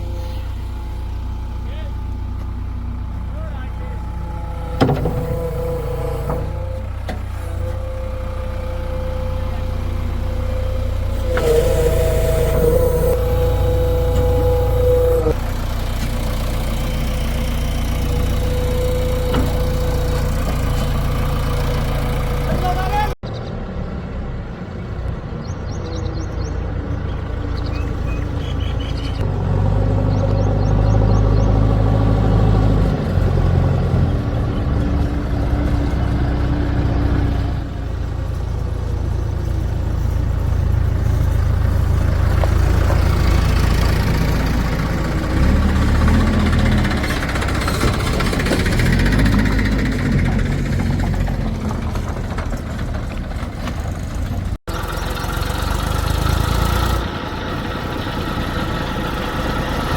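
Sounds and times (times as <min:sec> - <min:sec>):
diesel engines working: 0:00.0 - 0:59.9.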